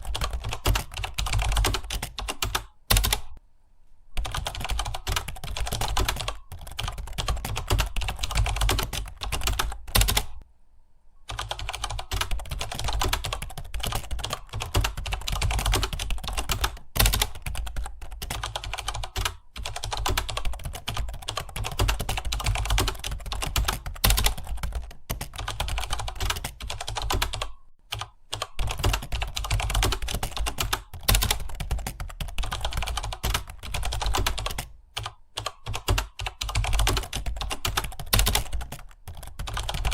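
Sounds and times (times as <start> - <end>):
fast typing on keyboard: 0.0 - 3.4, 4.2 - 10.4, 11.3 - 39.9.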